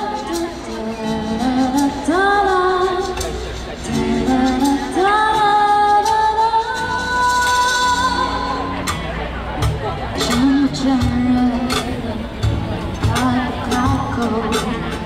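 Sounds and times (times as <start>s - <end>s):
woman singing pop ballad: 0.0s - 8.7s, 10.2s - 15.0s.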